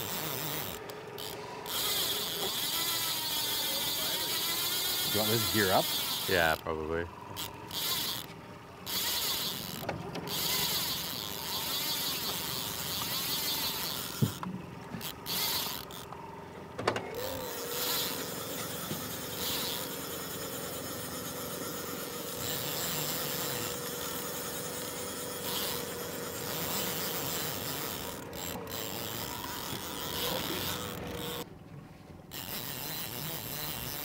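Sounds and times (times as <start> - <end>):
electric motor whine: 0.0 - 6.6, 7.2 - 8.3, 8.9 - 14.4, 15.0 - 16.2, 17.1 - 31.5, 32.3 - 34.0
boat engine: 0.0 - 34.0.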